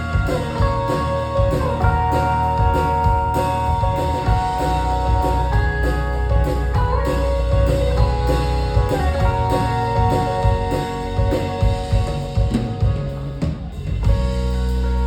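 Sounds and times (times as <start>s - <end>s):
deep bass note: 0.0s - 15.0s
drum kit hits and fills: 0.0s - 15.0s
live band playing: 0.0s - 15.0s.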